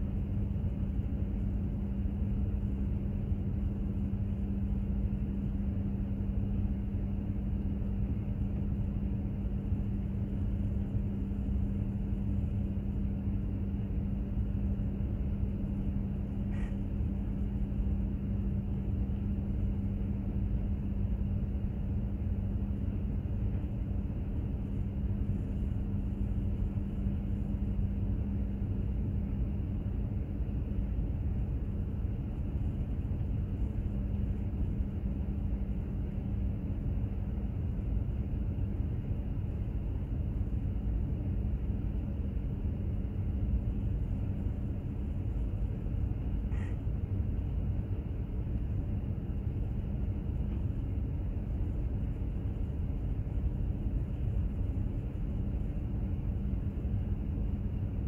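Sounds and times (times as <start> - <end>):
constant low hum: 0.0 - 58.0.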